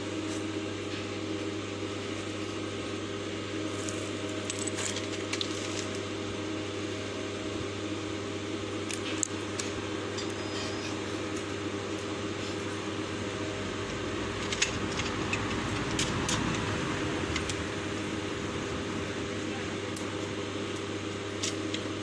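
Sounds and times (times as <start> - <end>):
electrical hum: 1.5 - 22.0.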